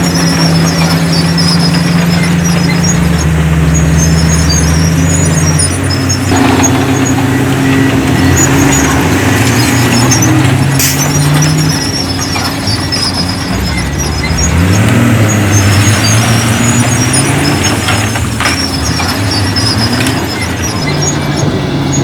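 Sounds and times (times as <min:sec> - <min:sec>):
heavy diesel engines under load: 0:00.0 - 0:22.0
high squeaks: 0:00.0 - 0:22.0.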